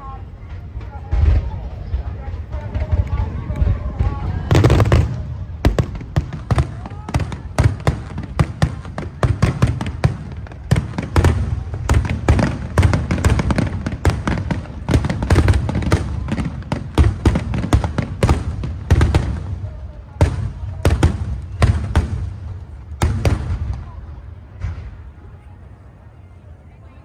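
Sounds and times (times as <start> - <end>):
fireworks bursting: 0.0 - 25.4.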